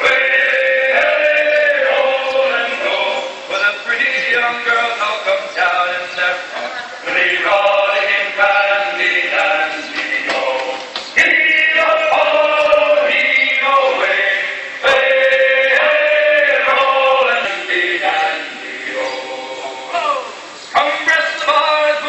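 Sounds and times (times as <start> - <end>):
men singing sea shanty in chorus: 0.0 - 22.0.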